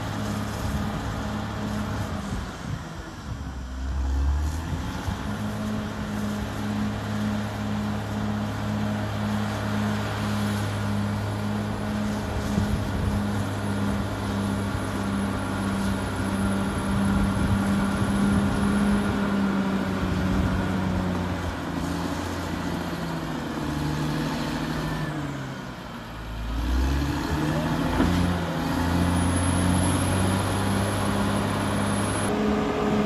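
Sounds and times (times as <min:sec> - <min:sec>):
bulldozer diesel engine under load: 0:00.0 - 0:33.0.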